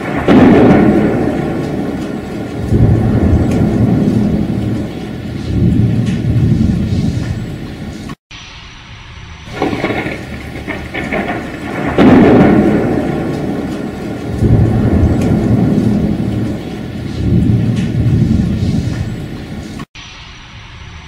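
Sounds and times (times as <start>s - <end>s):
sharp thunderclap: 0.0s - 7.9s, 9.4s - 19.8s
rumbling thunder: 0.0s - 8.0s, 9.4s - 19.8s
rain: 0.0s - 21.0s.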